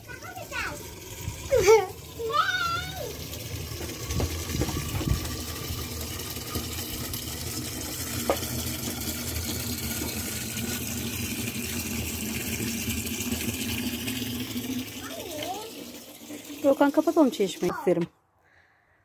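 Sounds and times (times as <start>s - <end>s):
water running from tap: 0.0s - 17.9s.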